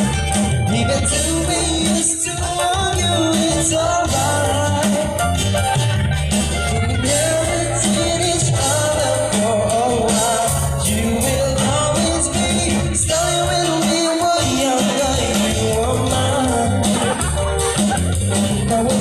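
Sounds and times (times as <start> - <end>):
bass guitar: 0.0 - 19.0
drums: 0.0 - 19.0
person singing: 0.7 - 5.4, 6.6 - 19.0.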